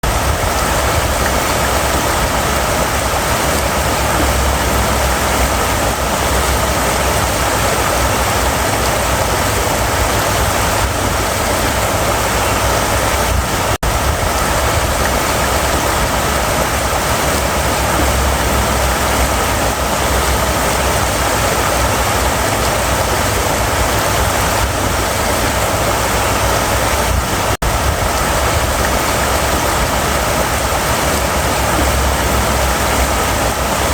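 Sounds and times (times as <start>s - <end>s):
river water rushing over rocks: 0.0s - 33.9s.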